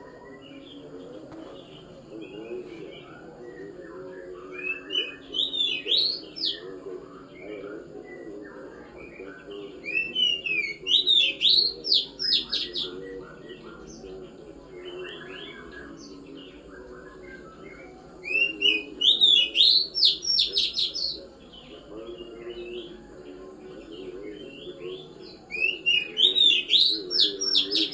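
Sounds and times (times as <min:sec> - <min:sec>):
songbird singing: 0:00.0 - 0:27.9.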